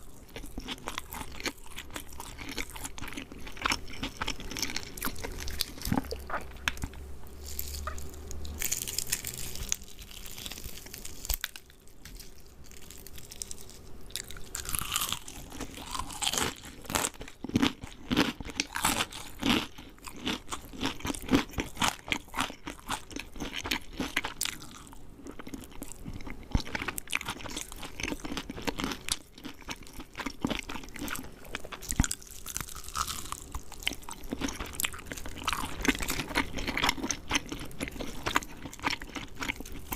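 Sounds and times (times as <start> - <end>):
crunching fried chicken: 0.0 - 39.9.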